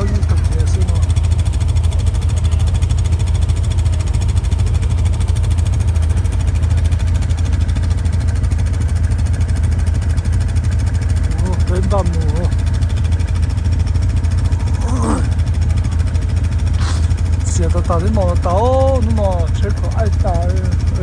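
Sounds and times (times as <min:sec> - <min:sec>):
off-road vehicle engine droning: 0:00.0 - 0:21.0.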